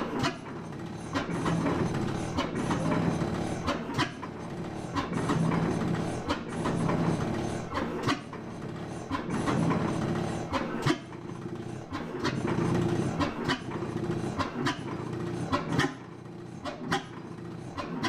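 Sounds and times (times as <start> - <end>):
stationary gas engine running: 0.0 - 18.0.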